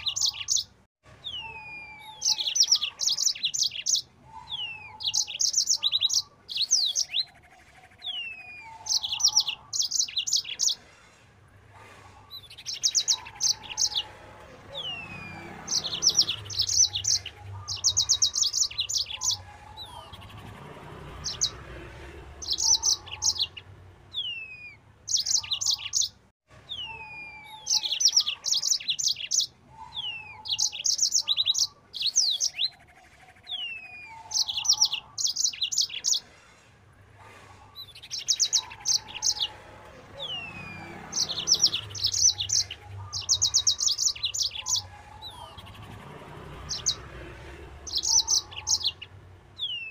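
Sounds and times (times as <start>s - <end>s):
canary singing: 0.0s - 10.9s, 12.0s - 36.3s, 37.6s - 49.9s.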